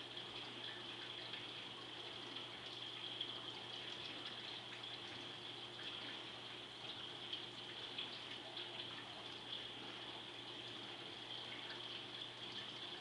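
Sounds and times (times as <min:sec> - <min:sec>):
aquarium water trickling: 0:00.0 - 0:13.0.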